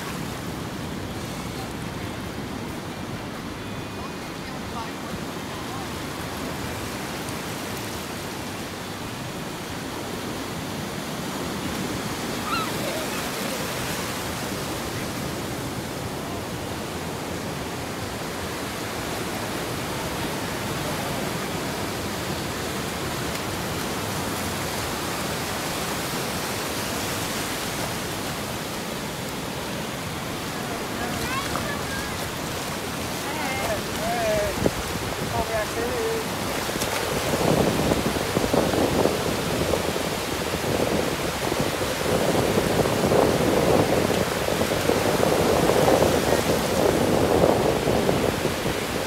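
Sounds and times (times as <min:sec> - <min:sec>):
ocean surf on sand: 0:00.0 - 0:49.0.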